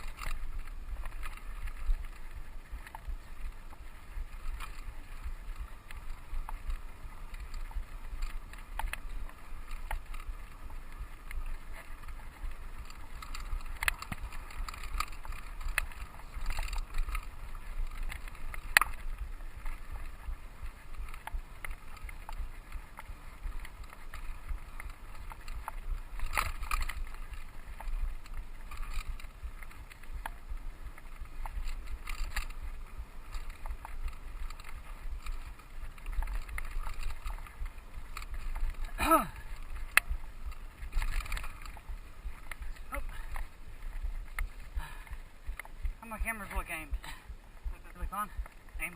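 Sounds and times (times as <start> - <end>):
bike clicks and rattles over bumps: 0.0 - 48.9
bike tyres rumbling on dirt trail: 0.0 - 48.9.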